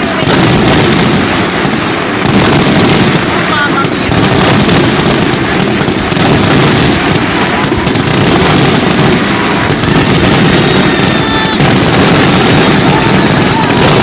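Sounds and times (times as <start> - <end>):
firecrackers crackling: 0.0 - 14.0.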